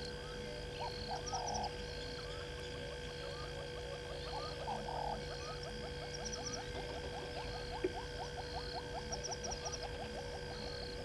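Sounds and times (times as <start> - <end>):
steady high hum: 0.0 - 11.0.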